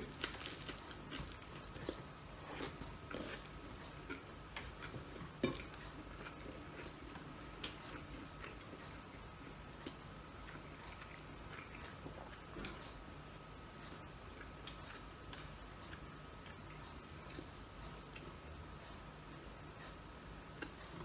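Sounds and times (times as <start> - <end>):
faint chewing: 0.0 - 21.0.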